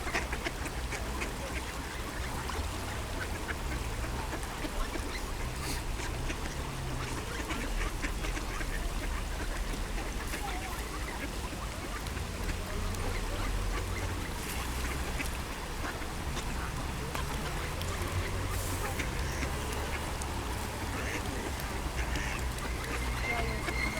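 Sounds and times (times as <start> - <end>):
ducks quacking: 0.0 - 23.9.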